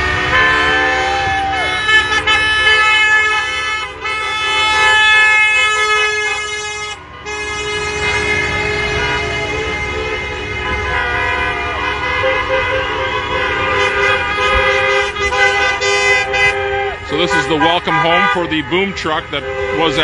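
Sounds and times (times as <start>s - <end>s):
low engine rumble: 0.0s - 20.0s
vehicle horns blowing: 0.0s - 20.0s.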